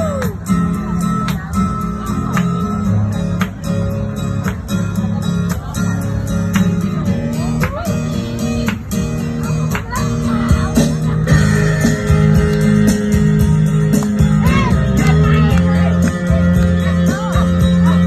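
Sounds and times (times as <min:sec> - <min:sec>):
repeating bass line: 0:00.0 - 0:18.0
steady drum beat: 0:00.0 - 0:18.0
strummed acoustic guitar: 0:00.0 - 0:18.0.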